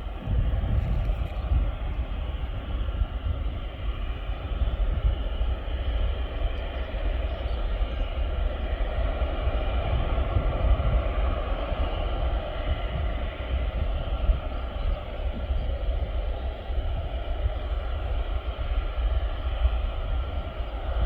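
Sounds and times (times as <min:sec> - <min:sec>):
faint engine whine: 0:00.0 - 0:21.0
jet engines rumbling: 0:00.0 - 0:21.0.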